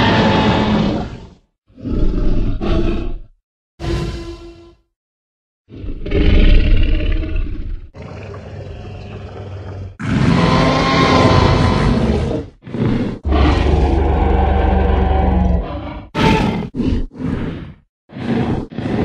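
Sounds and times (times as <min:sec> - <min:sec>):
dinosaur roar: 0:00.0 - 0:03.3, 0:05.7 - 0:19.0
dinosaur growls: 0:00.0 - 0:03.4, 0:05.7 - 0:19.0.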